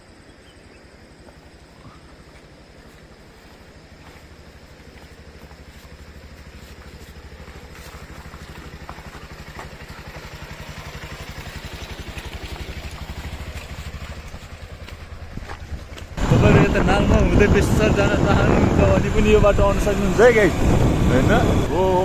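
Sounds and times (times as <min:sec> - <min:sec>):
motorcycle engine running: 0:01.9 - 0:22.0.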